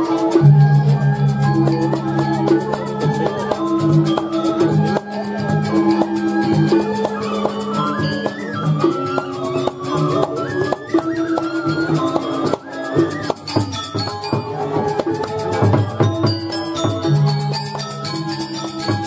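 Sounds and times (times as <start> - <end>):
gamelan playing: 0.0 - 19.0.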